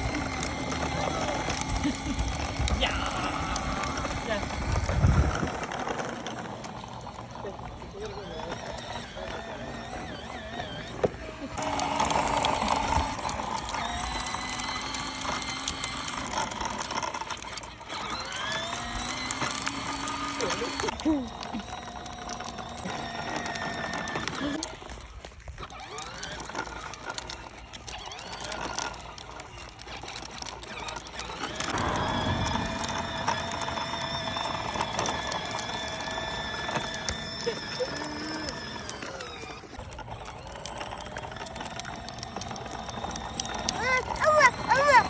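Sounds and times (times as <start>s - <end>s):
small dirt bike motor whirring: 0.0s - 45.0s.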